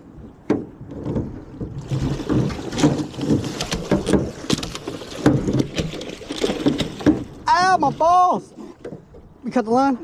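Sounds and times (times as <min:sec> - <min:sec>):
water splashing: 0:01.2 - 0:10.0.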